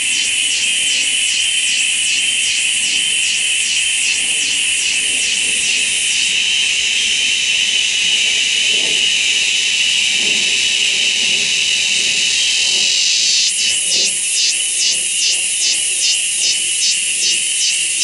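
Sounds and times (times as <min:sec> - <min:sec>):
cicada buzzing: 0:00.0 - 0:18.0.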